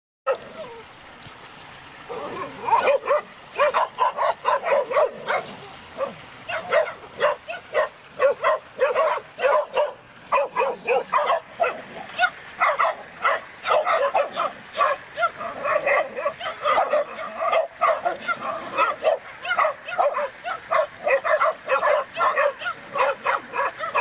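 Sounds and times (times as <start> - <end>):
dogs barking: 0.3 - 0.7, 2.1 - 24.0.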